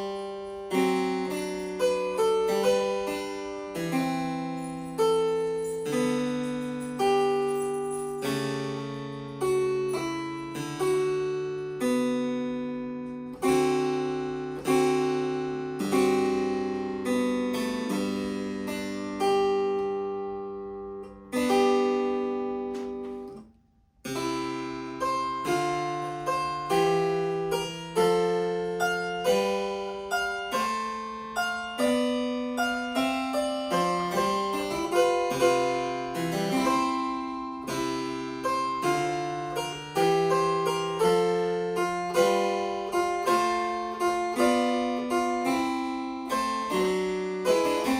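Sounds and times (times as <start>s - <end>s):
harpsichord music: 0.0s - 23.5s, 24.1s - 47.9s.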